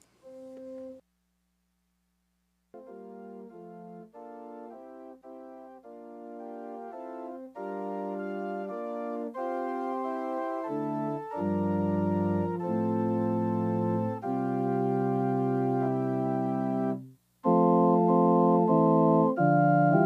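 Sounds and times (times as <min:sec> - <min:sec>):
deep organ bass notes: 0:02.8 - 0:20.0
organ playing held chords: 0:02.8 - 0:20.0.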